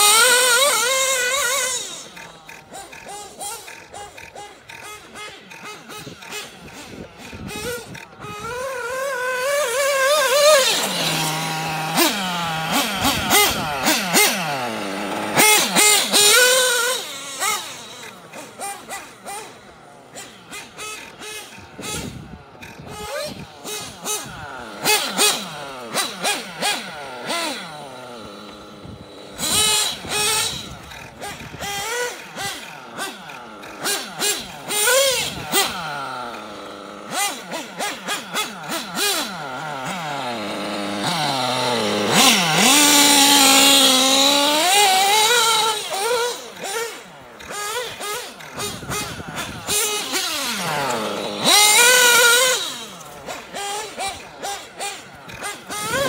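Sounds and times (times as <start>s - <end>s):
model buggy engine revving: 0.0s - 56.0s.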